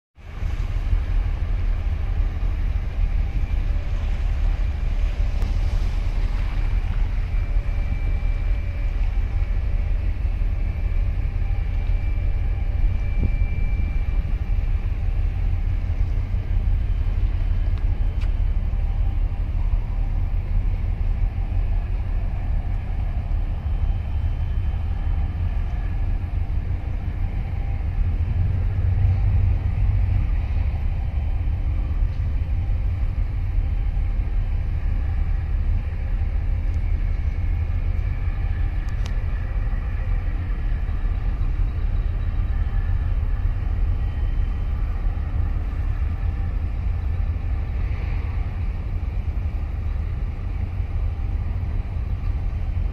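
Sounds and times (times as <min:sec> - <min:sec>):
faint steady tones: 0:00.2 - 0:52.9
ship engines low rumble: 0:00.2 - 0:52.9.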